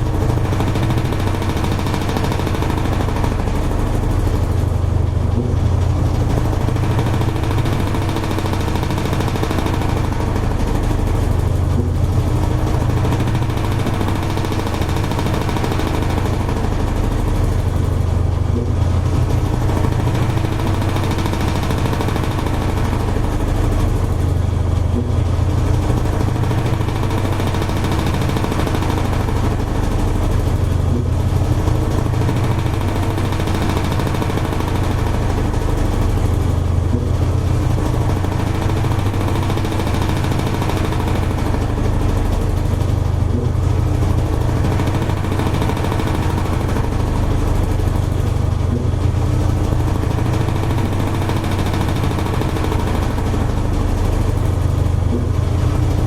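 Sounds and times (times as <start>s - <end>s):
washing machine motor hum: 0.0s - 56.0s.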